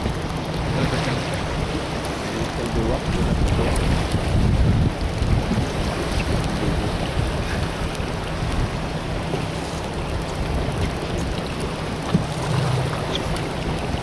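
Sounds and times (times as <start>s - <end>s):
water noise: 0.0s - 14.0s
wind buffeting microphone: 0.0s - 14.0s.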